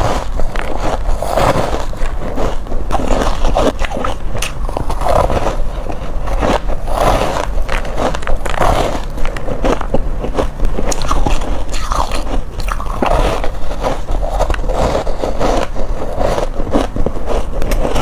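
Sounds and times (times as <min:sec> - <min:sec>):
ice crunched between teeth: 0:00.0 - 0:18.0.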